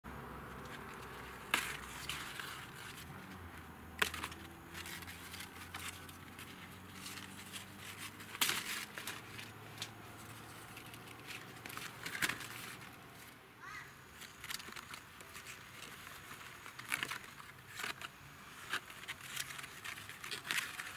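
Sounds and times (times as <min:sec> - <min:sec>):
leaves rustling and crinkling: 0:00.1 - 0:20.9.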